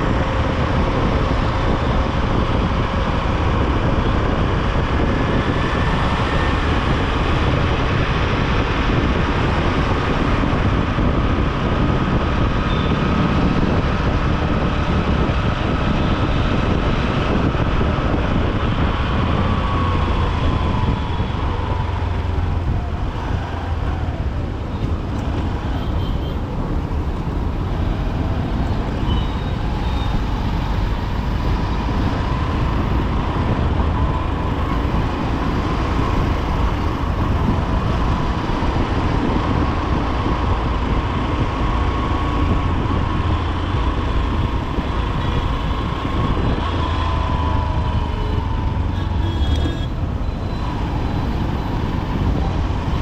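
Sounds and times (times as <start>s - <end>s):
traffic road noise: 0.0s - 53.0s.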